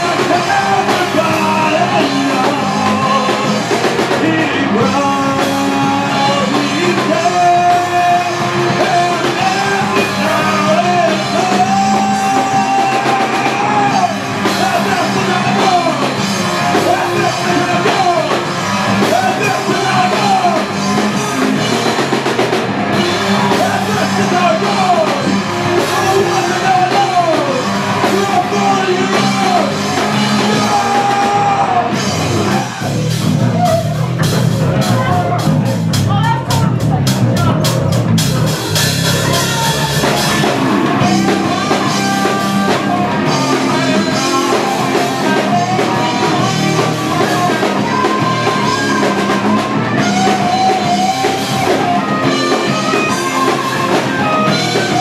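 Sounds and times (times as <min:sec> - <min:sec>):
singer yelling into microphone: 0:00.0 - 0:22.1, 0:22.8 - 0:38.0, 0:38.9 - 0:55.0
live rock band playing: 0:00.0 - 0:55.0.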